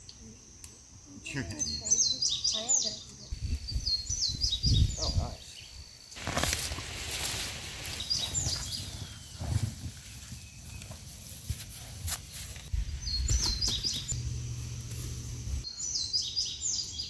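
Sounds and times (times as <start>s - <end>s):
songbird chirping: 0.0s - 6.2s, 7.8s - 11.2s, 12.6s - 17.0s.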